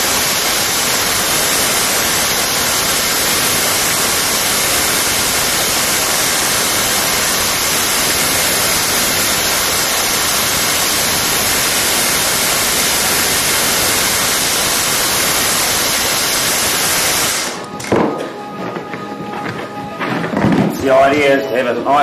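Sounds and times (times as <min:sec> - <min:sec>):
white noise static hiss: 0:00.0 - 0:17.7.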